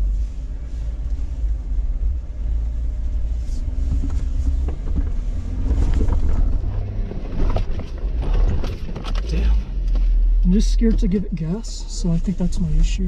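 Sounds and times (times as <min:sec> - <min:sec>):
engine rumbling at low revs: 0:00.0 - 0:13.0.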